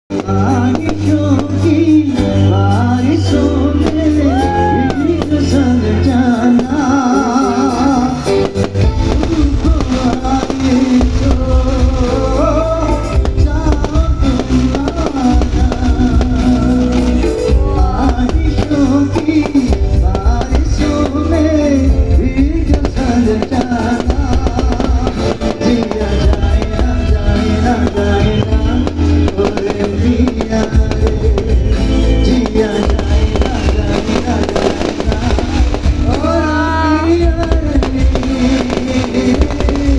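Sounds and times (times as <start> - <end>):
live band music: 0.1 - 39.9.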